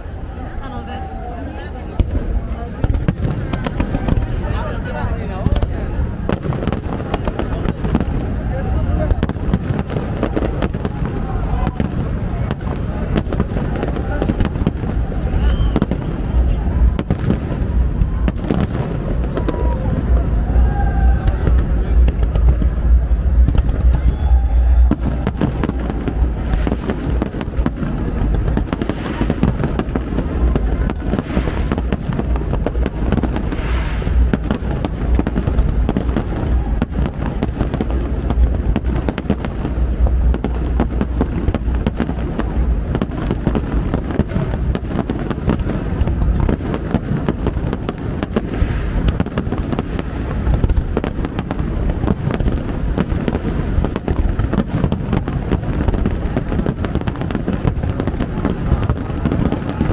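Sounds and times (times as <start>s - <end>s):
fireworks crackling: 0.0s - 59.9s
fireworks booming bursts: 1.9s - 59.9s.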